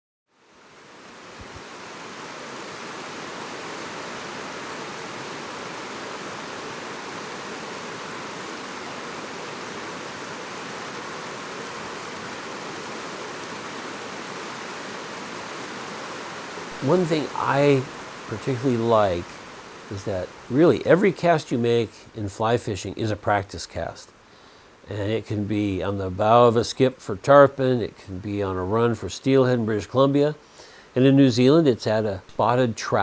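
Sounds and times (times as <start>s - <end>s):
river rushing: 0.4s - 28.7s.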